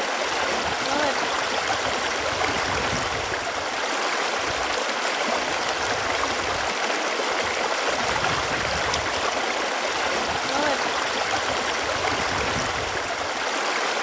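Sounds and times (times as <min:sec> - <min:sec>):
running water gurgling: 0:00.0 - 0:14.0.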